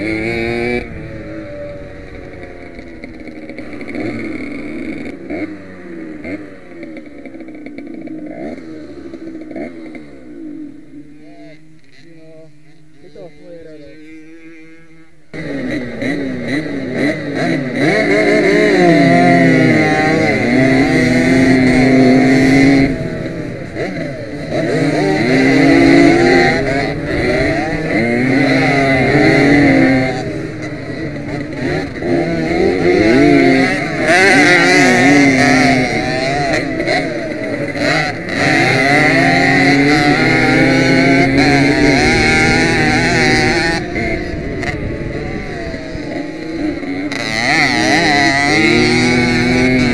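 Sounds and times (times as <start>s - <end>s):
motorcycle engine revving: 0.0s - 49.9s
two-stroke motorcycle engines racing: 0.0s - 49.9s.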